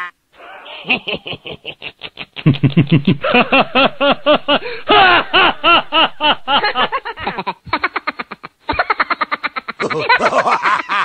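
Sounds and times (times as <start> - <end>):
manic laughter: 0.4 - 11.0.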